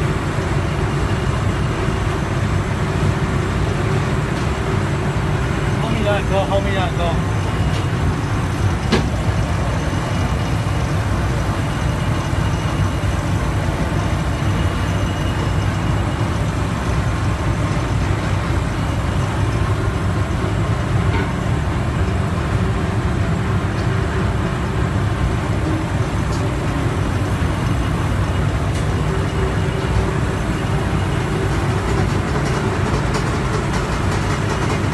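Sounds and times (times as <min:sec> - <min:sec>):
refrigerator compressor humming: 0:00.0 - 0:34.9.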